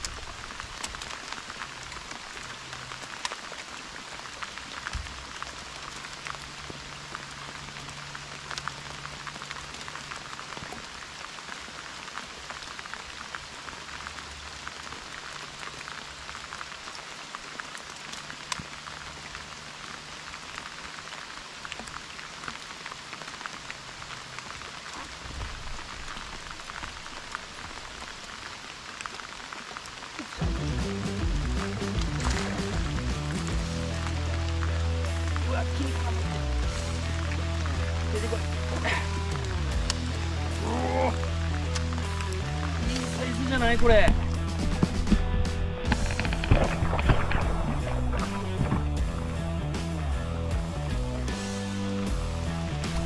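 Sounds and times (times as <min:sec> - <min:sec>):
rain falling on water and boat: 0:00.0 - 0:53.0.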